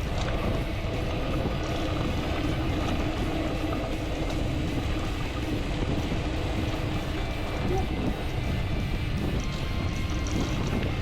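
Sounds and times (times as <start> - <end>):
bike rattling: 0.0 - 11.0
bike tyre noise on dirt: 0.0 - 11.0
wind rushing: 0.0 - 11.0.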